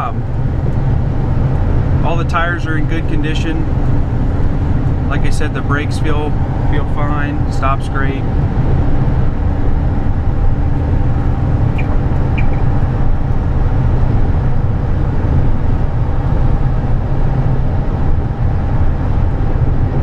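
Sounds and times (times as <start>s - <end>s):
road and engine noise in truck cab: 0.0s - 20.0s.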